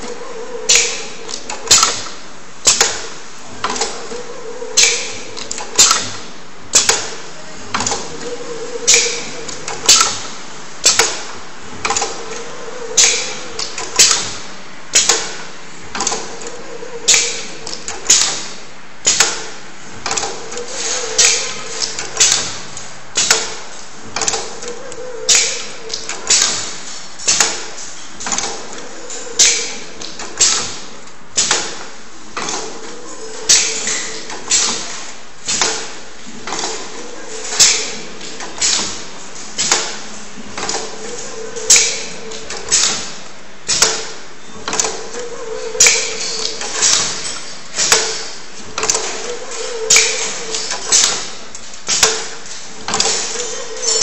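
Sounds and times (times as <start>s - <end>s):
machine press clacking: 0.0s - 54.0s
steady mechanical hum: 0.0s - 54.0s.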